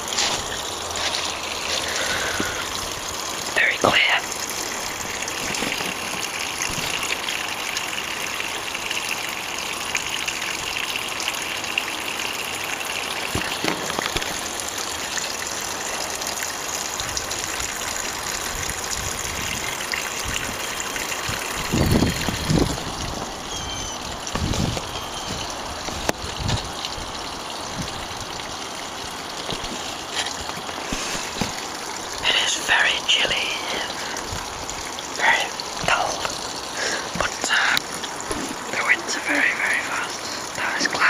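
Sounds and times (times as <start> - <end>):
fountain splashing: 0.0 - 41.0.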